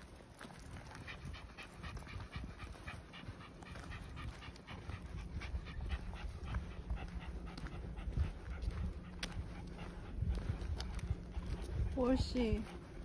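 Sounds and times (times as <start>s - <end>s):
dog breathing fast: 0.4s - 13.0s.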